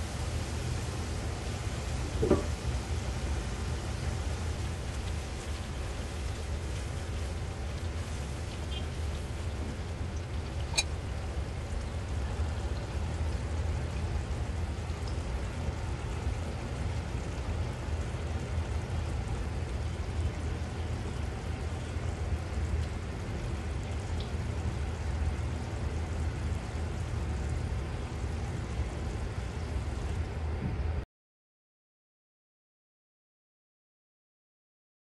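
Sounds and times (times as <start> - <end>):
gravy sizzling in oil: 0.0 - 30.4
constant low rumble: 0.0 - 31.0.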